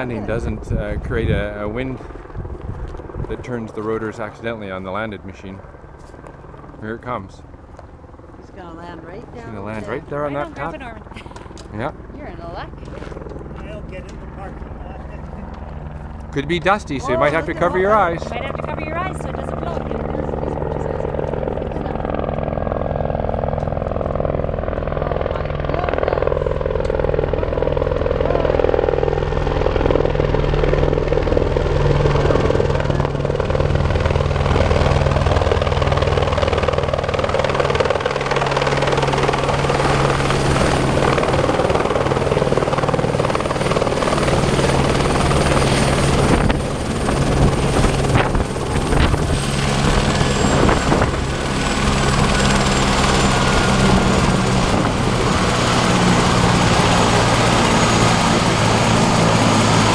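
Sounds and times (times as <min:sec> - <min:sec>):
helicopter rotors beating: 0:00.0 - 0:59.9.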